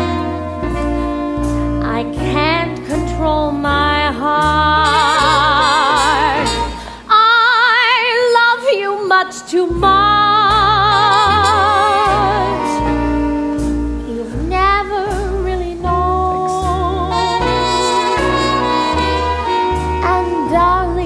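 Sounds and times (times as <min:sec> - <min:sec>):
instrumental accompaniment with bass: 0:00.0 - 0:07.1, 0:09.6 - 0:21.0
woman singing a slow ballad: 0:01.8 - 0:13.2, 0:14.0 - 0:18.4, 0:19.7 - 0:21.0.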